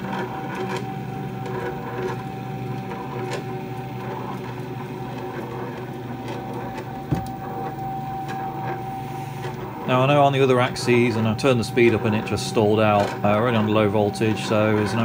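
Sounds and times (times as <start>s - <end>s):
stepper motor whine: 0.0s - 15.0s.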